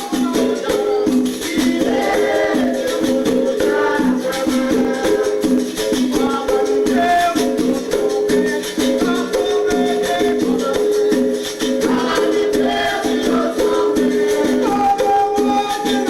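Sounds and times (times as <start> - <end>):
shaker and tambourine percussion: 0.0 - 16.0.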